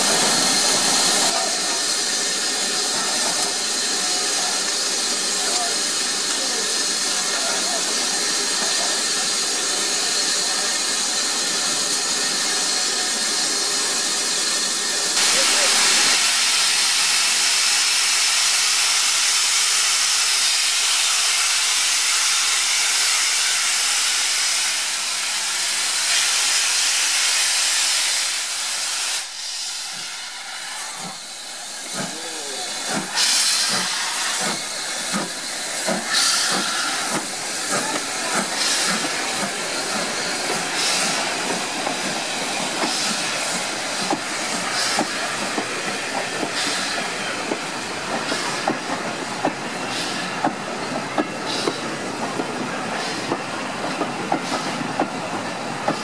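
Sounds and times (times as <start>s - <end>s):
steam bursts: 0.0s - 56.0s
steam locomotive hissing: 0.0s - 56.0s.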